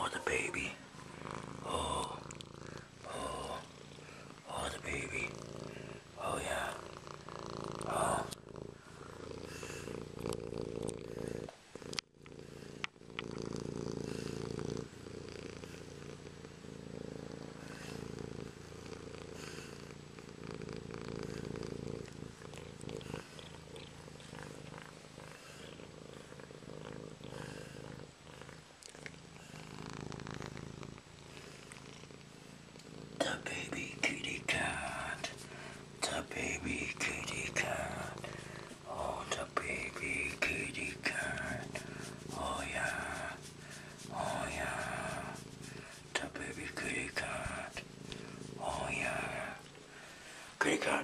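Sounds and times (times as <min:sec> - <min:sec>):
cat purring: 0:00.0 - 0:51.0.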